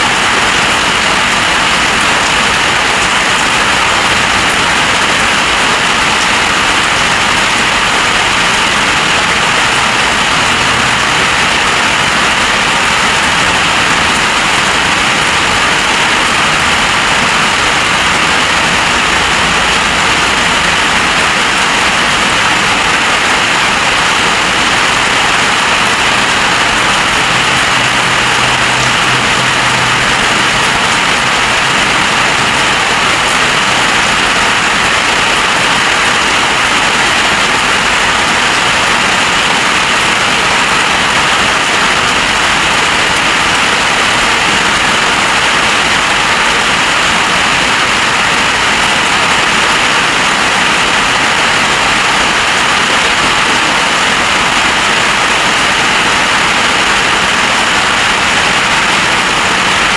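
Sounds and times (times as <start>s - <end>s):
heavy rain rushing: 0.0s - 59.9s.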